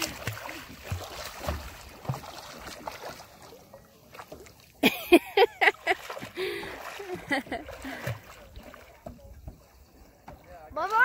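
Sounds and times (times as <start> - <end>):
paddle strokes in water: 0.0 - 4.8, 5.6 - 11.0
water moving along hull: 0.0 - 11.0.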